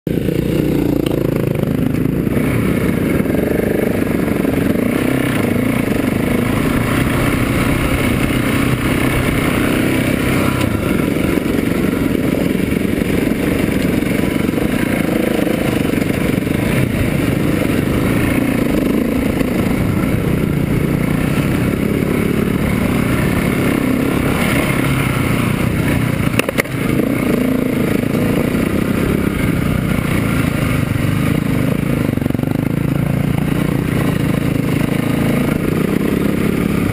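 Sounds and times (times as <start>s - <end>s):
motorcycle engine running: 0.1s - 36.9s.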